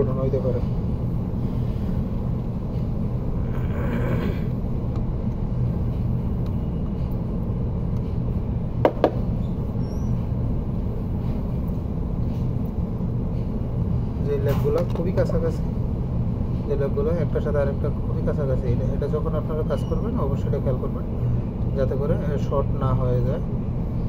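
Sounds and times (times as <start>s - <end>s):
low hum and rumble: 0.0s - 24.0s.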